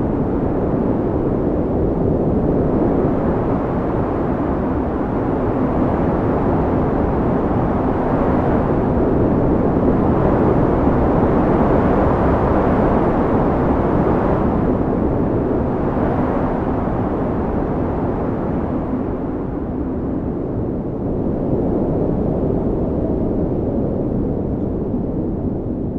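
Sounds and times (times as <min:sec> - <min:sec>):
storm wind blowing hard: 0:00.0 - 0:25.9.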